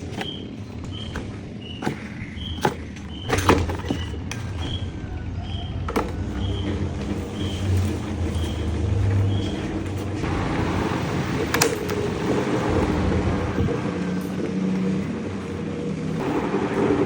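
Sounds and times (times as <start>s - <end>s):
electric fan motor hum: 0.0s - 17.0s.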